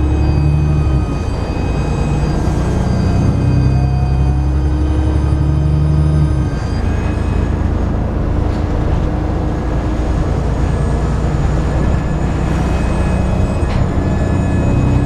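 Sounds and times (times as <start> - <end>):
bus engine drone with whine: 0.0 - 15.0.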